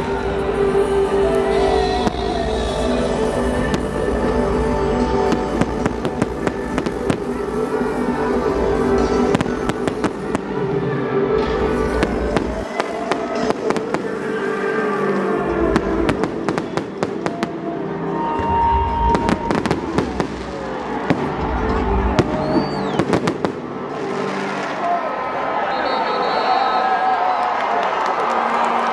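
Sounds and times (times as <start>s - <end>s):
music playing: 0.0s - 26.0s
fireworks bangs and crackles: 1.6s - 24.9s.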